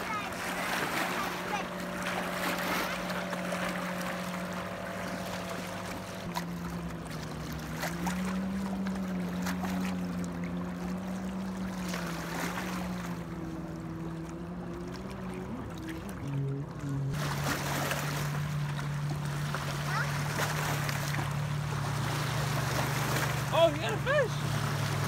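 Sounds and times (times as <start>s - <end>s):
waves lapping against rocks: 0.0s - 13.2s, 14.9s - 25.0s
distant motorboat engine droning: 0.0s - 25.0s.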